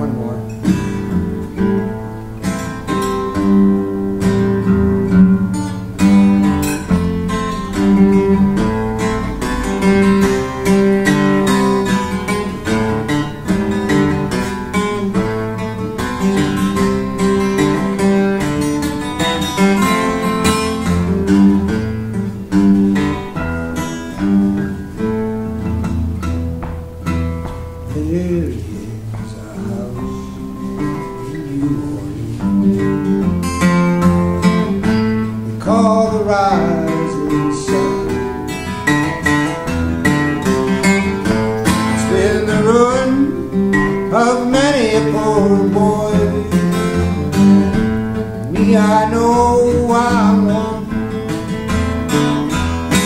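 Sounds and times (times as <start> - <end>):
acoustic guitar fingerpicking: 0.0 - 53.0.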